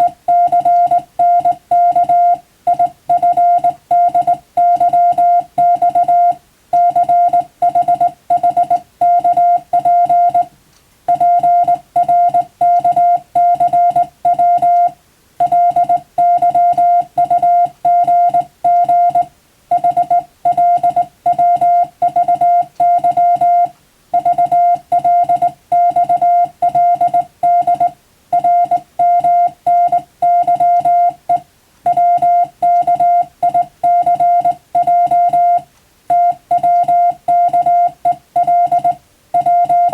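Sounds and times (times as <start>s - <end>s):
morse code beeping: 0.0s - 10.5s, 11.1s - 39.9s.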